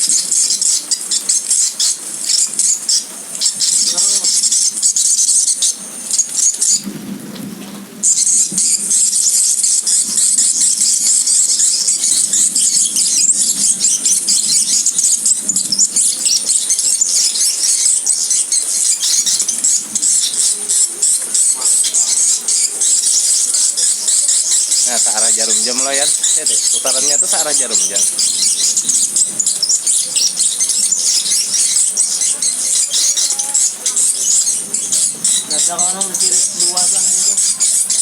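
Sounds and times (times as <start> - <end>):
high chirping bird calls: 0.0 - 6.9, 8.0 - 38.0.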